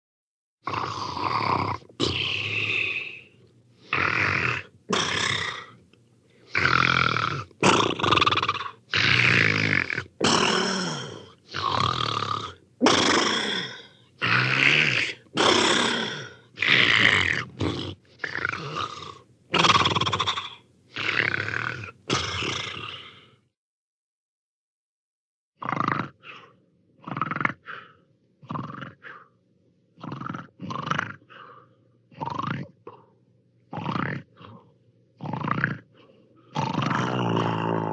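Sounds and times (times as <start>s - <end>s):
cartoon snoring: 0.6s - 5.8s, 6.4s - 23.4s, 25.6s - 29.4s, 30.0s - 31.5s, 32.1s - 33.1s, 33.7s - 37.9s.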